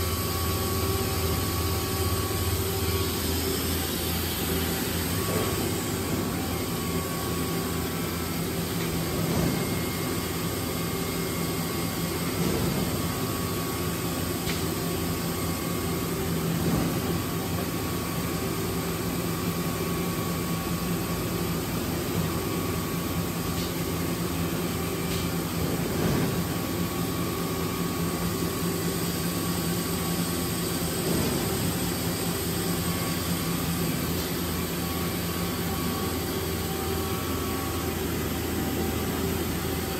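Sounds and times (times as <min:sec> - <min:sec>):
industrial machine drone: 0:00.0 - 0:39.9.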